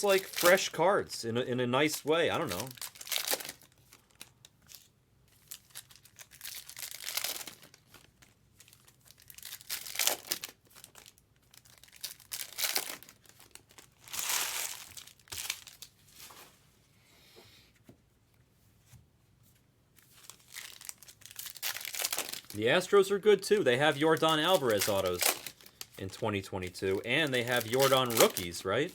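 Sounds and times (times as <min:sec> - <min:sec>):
card pack wrappers crinkling: 0:00.0 - 0:00.8, 0:01.8 - 0:16.0, 0:20.0 - 0:28.9.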